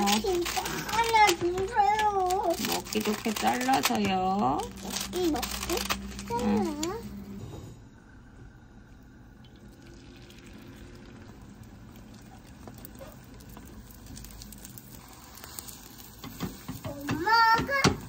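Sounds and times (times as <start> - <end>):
egg sizzling in a pan: 0.0 - 7.2, 8.0 - 18.0.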